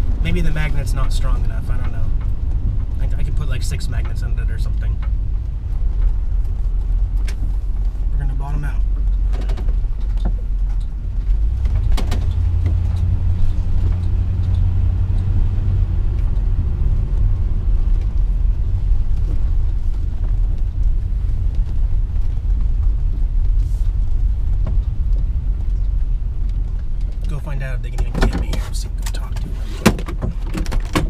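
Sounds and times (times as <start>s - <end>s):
engine rumbling: 0.0s - 31.0s.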